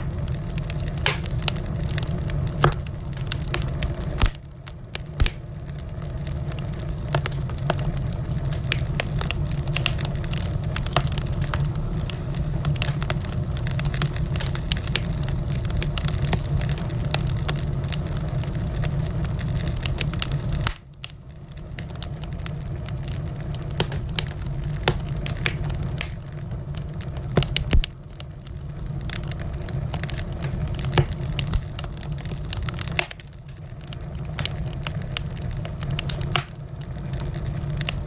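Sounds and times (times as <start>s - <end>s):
low rumble of flames: 0.0s - 38.0s
wood fire crackling and popping: 0.0s - 38.0s.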